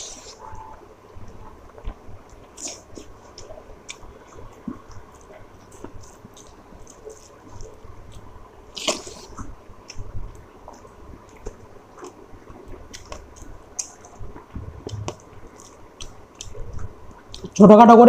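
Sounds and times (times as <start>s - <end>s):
person chewing food: 2.2s - 17.6s.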